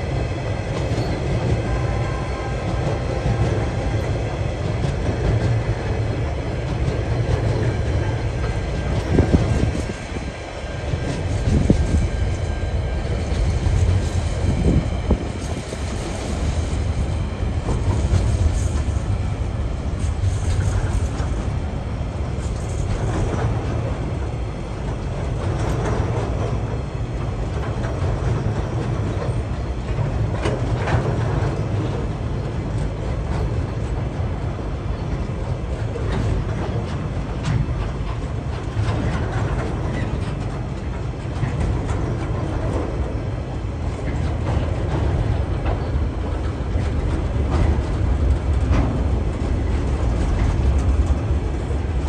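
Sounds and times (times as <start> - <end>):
clicks and clacks from train wheels: 0.0 - 52.0
train wheels rumbling on rails: 0.0 - 52.0.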